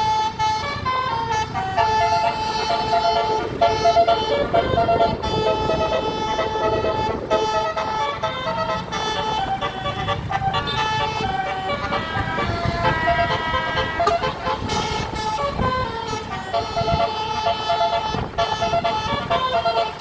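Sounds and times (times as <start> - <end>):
low rumble of bus: 0.0 - 20.0
musical air horn tune: 0.0 - 20.0.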